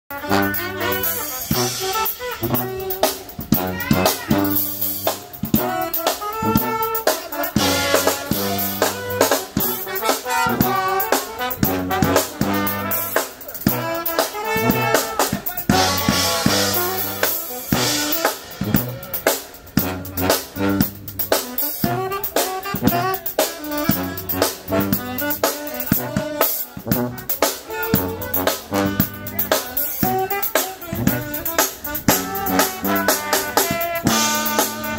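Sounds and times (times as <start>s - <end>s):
drum kit beat: 0.1s - 34.9s
saxophone: 0.1s - 34.9s
sousaphone bass line: 0.1s - 34.9s
trombone: 0.1s - 34.9s
trumpet: 0.1s - 34.9s.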